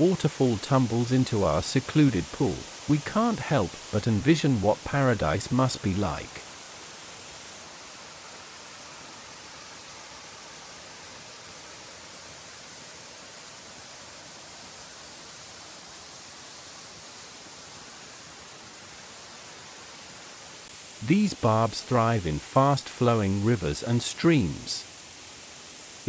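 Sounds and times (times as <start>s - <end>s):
waterfall rushing into pool: 0.0s - 26.0s.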